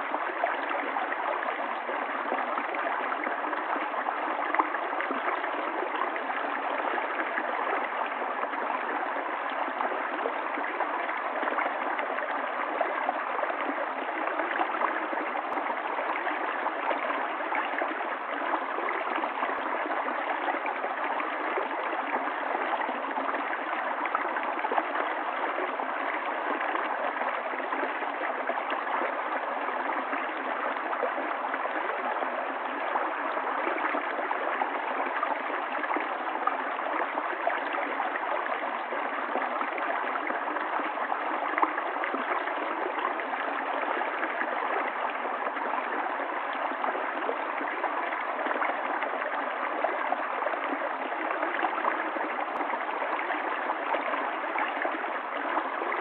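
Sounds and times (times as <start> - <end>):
stream of running water: 0.0 - 56.0.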